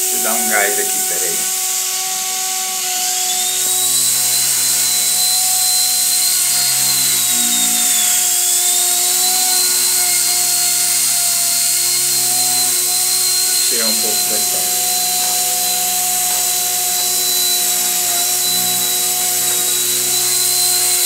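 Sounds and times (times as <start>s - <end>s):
toy helicopter motor whine: 0.0s - 21.0s.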